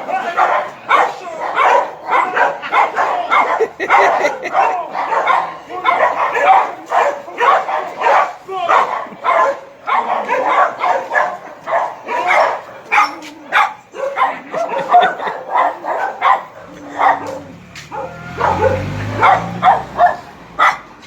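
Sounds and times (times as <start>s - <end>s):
dog barking: 0.0s - 21.0s.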